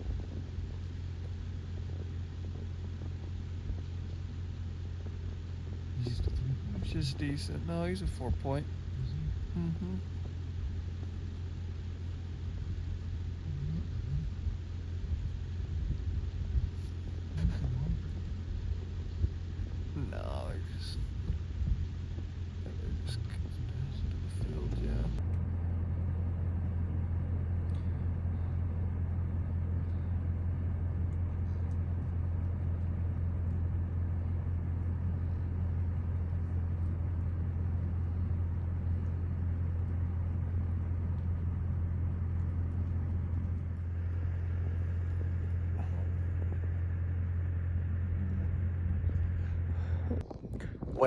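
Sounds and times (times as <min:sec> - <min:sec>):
vehicle engine running: 0:00.0 - 0:50.8.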